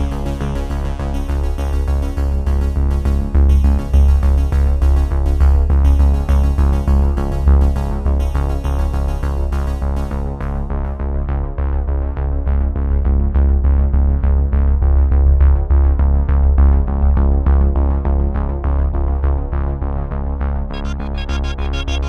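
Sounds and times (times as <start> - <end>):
background music with steady beat: 0.0 - 19.7, 20.7 - 22.0.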